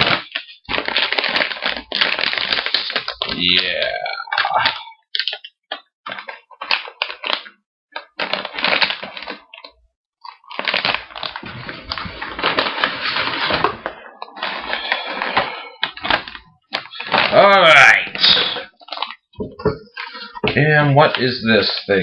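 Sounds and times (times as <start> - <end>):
plastic packaging rustling: 0.0 - 22.0.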